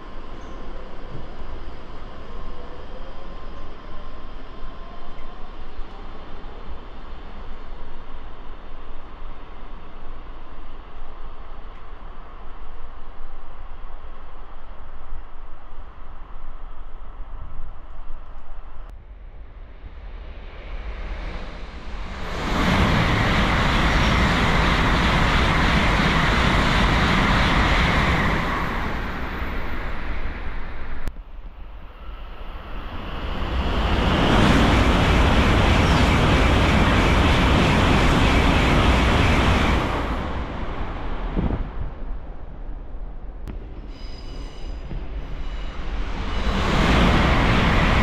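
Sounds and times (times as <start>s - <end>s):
bullet train passing at speed: 0.0s - 48.0s
rush of wind and rail noise: 0.0s - 48.0s.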